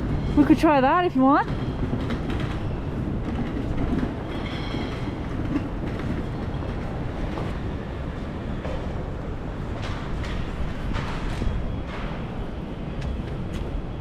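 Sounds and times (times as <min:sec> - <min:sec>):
low rumble of city noise: 0:00.0 - 0:14.0.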